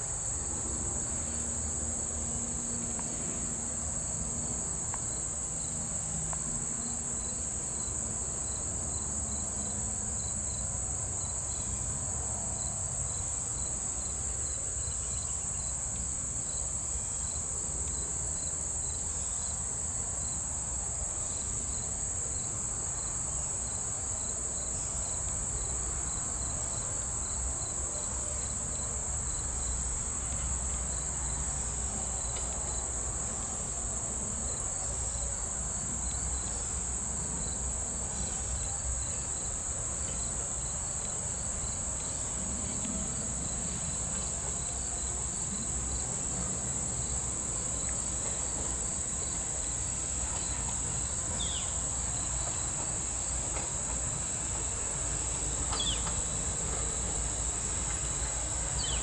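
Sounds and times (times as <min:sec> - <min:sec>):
chorus of insects: 0:00.0 - 0:59.0.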